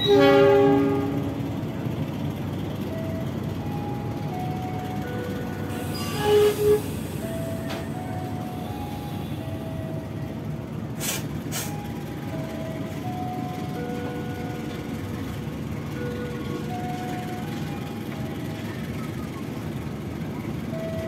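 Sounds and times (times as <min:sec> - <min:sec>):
train carriages rumbling: 0:00.0 - 0:21.0.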